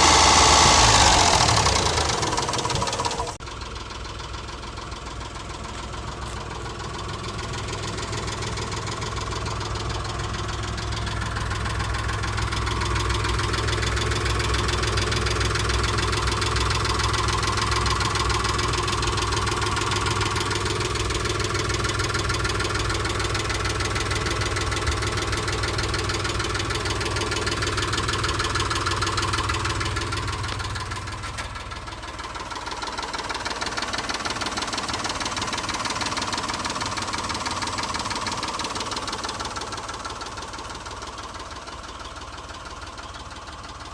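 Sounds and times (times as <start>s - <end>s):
engine idling: 0.0s - 43.9s
fast engine ticking: 0.0s - 43.9s.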